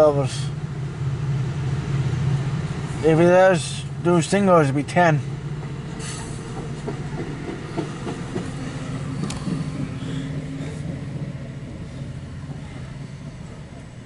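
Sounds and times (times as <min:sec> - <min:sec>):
train cars rolling on rails: 0:00.0 - 0:14.0.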